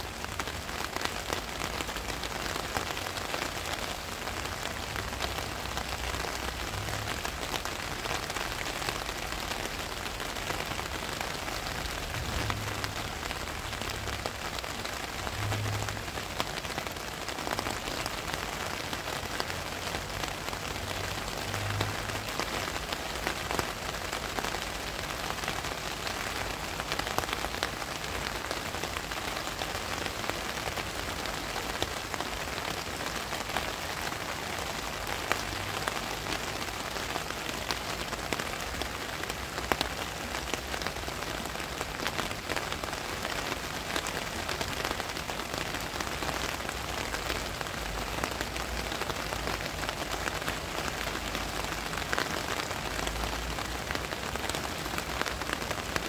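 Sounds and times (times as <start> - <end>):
raindrops striking surfaces: 0.0 - 56.0
steady rain falling: 0.0 - 56.0.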